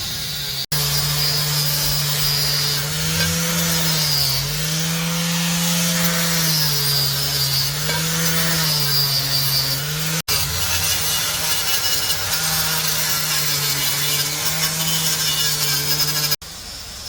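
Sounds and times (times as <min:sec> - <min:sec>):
electric power tool motor running: 0:00.0 - 0:16.4.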